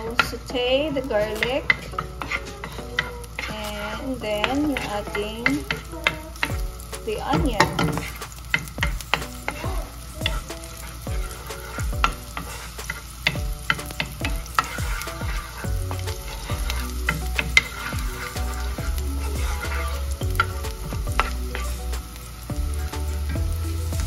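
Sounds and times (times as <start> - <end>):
garlic and onion sizzling in oil: 0.0 - 24.0
spatula scraping a pan: 0.0 - 24.0.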